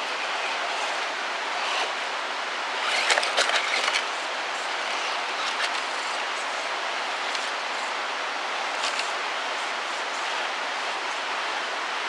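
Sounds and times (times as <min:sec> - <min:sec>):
rc crawler crawling over rock: 0:00.0 - 0:11.4
steady rushing hiss: 0:00.0 - 0:12.0.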